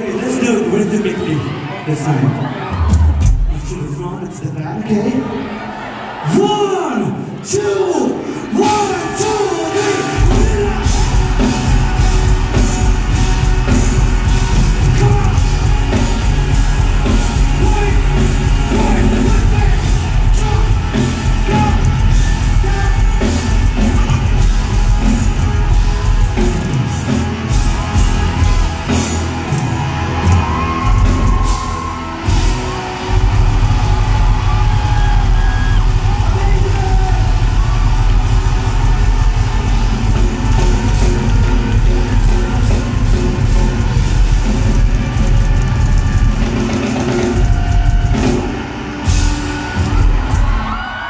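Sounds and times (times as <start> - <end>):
live rock band playing: 8.5 - 51.0.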